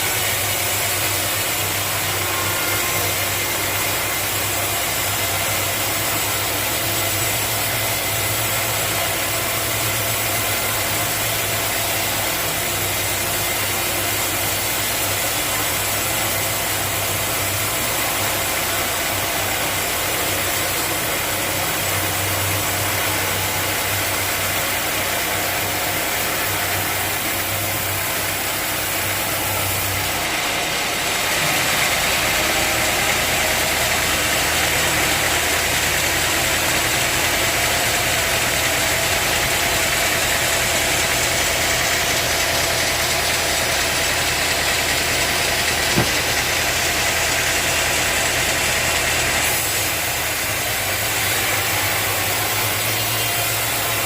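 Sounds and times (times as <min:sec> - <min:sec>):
sawmill machinery hum and whine: 0:00.0 - 0:54.0.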